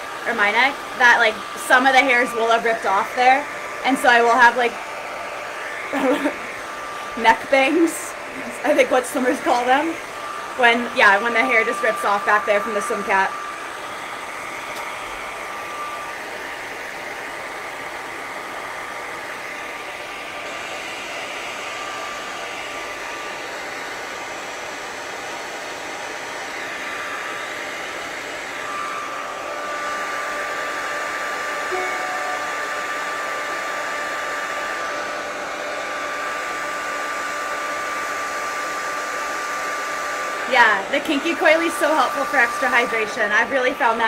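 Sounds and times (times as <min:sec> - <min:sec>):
hair dryer running: 0:00.0 - 0:44.0.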